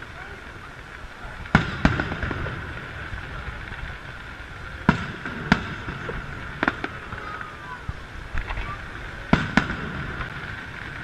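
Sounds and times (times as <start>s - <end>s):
firework bangs: 0.0s - 11.0s
firework crackling: 0.0s - 11.0s.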